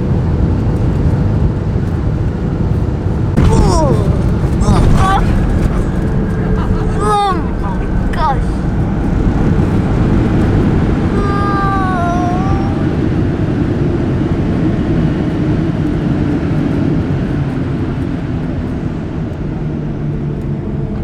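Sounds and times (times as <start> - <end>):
jet cabin rumble: 1.8 - 21.0.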